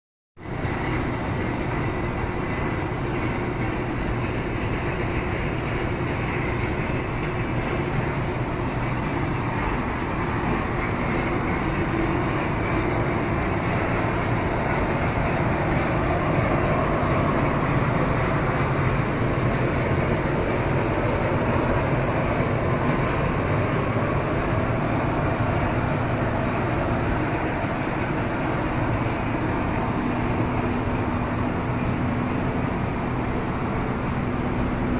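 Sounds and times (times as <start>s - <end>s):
machinery running: 0.5s - 34.9s.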